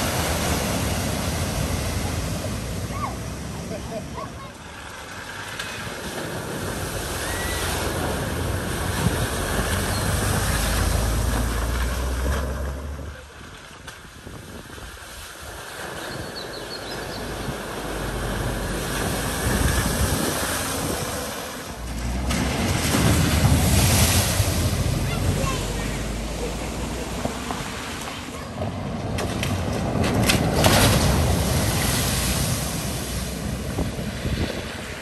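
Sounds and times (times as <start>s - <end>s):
car engine: 0.0s - 13.7s, 17.2s - 34.2s
cars splashing through water: 0.0s - 35.0s.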